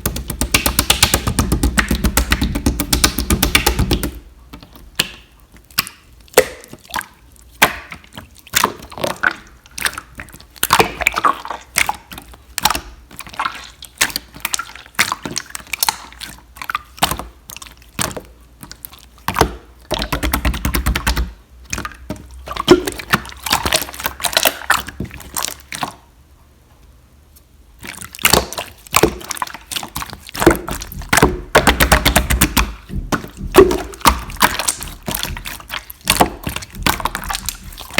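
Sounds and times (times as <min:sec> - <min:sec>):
slime squishing wet clicks: 0:00.0 - 0:26.0, 0:27.8 - 0:37.9.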